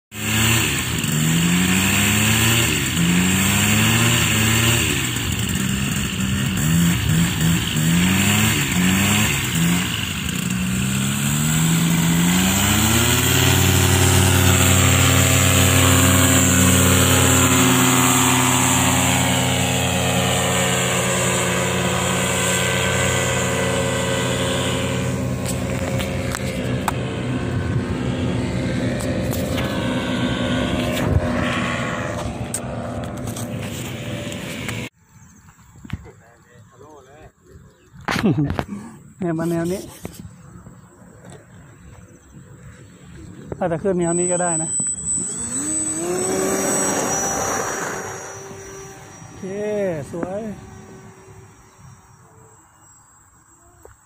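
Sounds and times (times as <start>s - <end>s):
paramotor engine and propeller revving: 0.0s - 35.0s, 36.7s - 54.0s.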